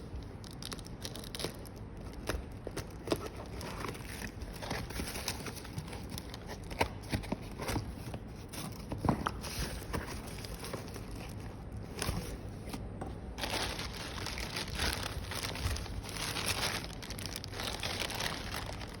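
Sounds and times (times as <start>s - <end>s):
packaging crinkling: 0.4s - 12.6s, 13.3s - 19.0s.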